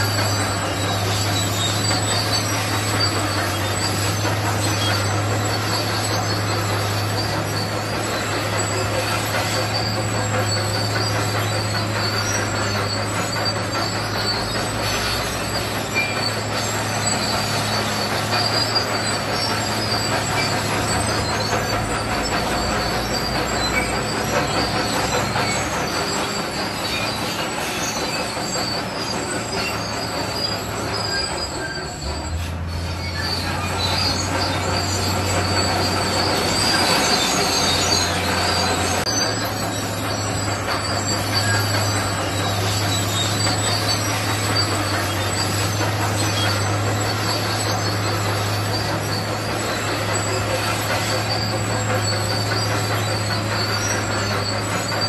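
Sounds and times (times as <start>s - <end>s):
bulldozer diesel engine: 0.0s - 55.0s
steel tracks squealing and rattling: 0.0s - 55.0s.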